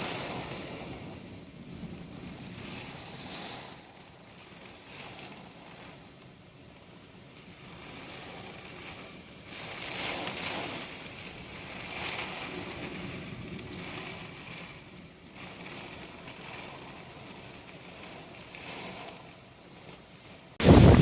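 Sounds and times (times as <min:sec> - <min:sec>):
driving rain: 0:00.0 - 0:21.0
strong wind gusts: 0:00.0 - 0:21.0.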